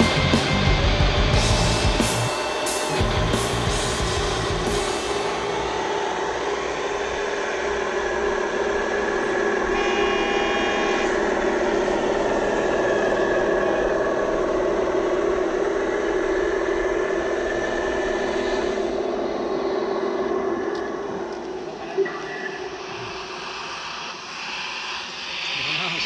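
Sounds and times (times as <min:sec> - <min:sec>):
simulated truck engine drone: 0:00.0 - 0:25.8.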